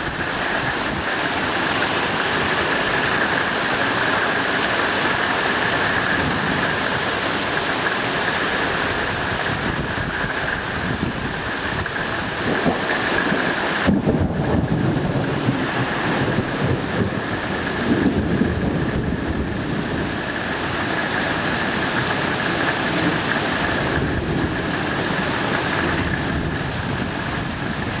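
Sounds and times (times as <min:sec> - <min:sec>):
heavy rain falling: 0:00.0 - 0:28.0
low rumble of thunder: 0:00.0 - 0:28.0.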